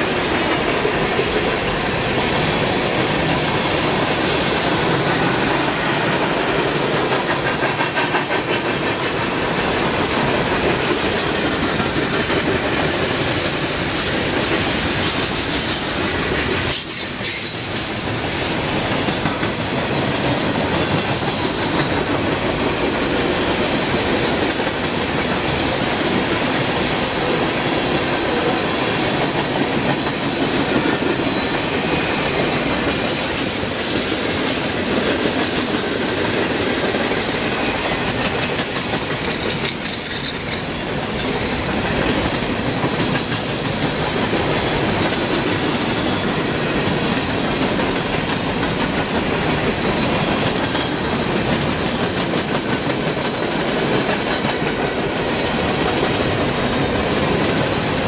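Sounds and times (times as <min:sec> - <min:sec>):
freight train wheels clacking: 0:00.0 - 0:58.0.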